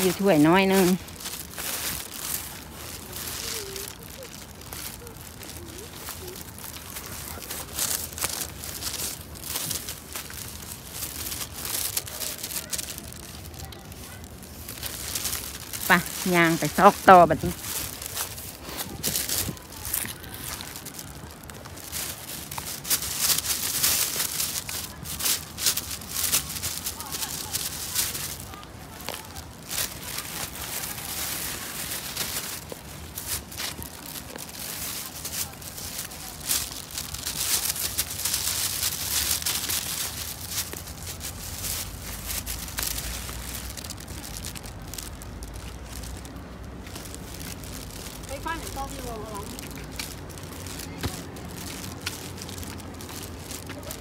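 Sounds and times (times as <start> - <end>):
footsteps through dry brush: 0.0 - 54.0.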